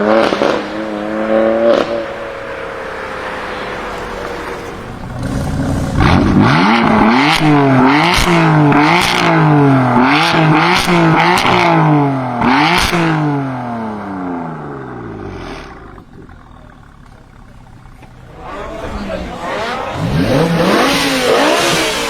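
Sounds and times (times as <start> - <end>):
car engine revving: 0.0 - 22.0
exhaust cracks: 0.0 - 22.0.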